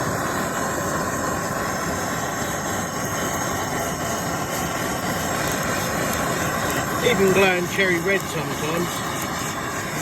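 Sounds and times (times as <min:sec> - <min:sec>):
blowtorch flame hissing: 0:00.0 - 0:10.0.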